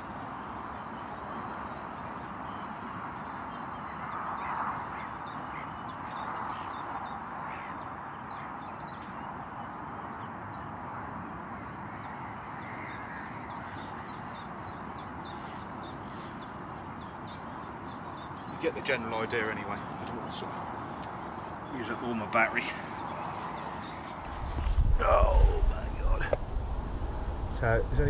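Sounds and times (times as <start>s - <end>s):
small birds singing: 0.0s - 28.0s
steady outdoor hiss: 0.0s - 28.0s.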